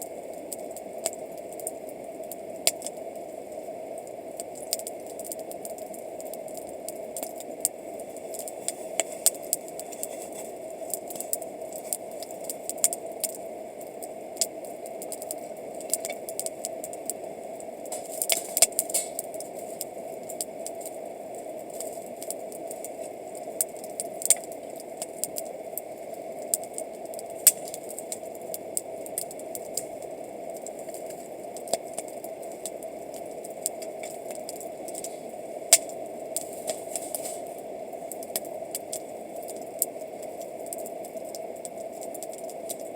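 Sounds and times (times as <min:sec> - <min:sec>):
wood campfire crackling: 0:00.0 - 0:42.9.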